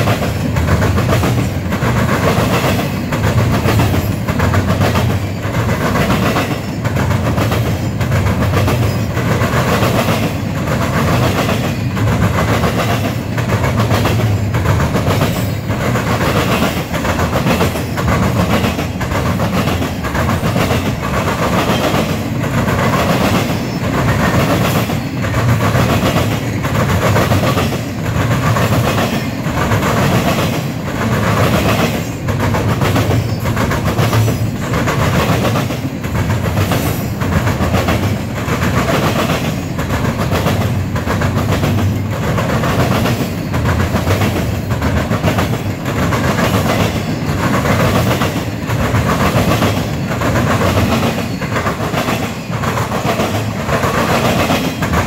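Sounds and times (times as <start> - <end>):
clickety-clack of train wheels: 0.0 - 55.0
train rumbling past: 0.0 - 55.0.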